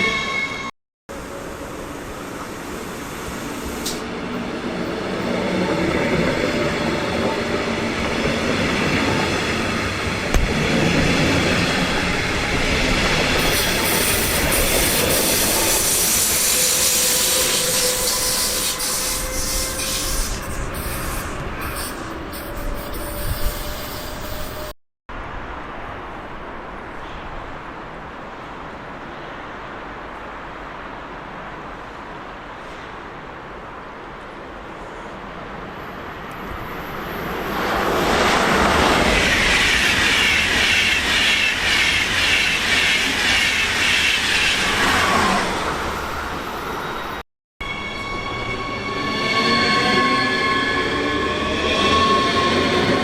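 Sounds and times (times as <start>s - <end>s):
train running on rails: 0.0s - 53.0s.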